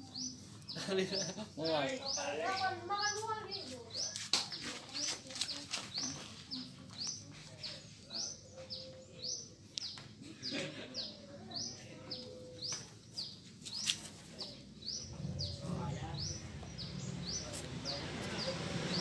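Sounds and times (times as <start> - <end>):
bird chirping: 0.0 - 4.3, 4.9 - 19.0.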